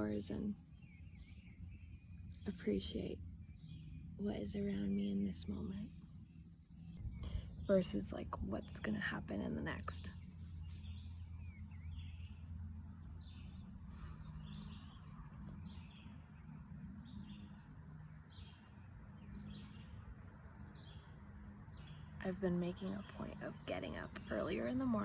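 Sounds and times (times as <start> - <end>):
bird chirping: 0.0 - 25.0
faint low hum: 0.0 - 25.0.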